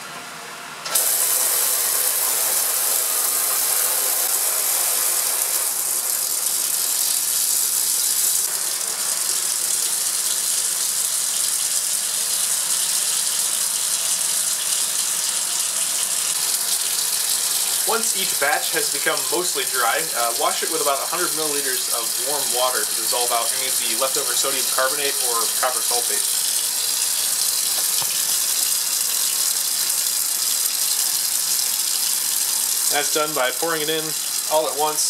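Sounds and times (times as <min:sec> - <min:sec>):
water rushing through aspirator: 0:00.8 - 0:12.6, 0:14.4 - 0:35.0.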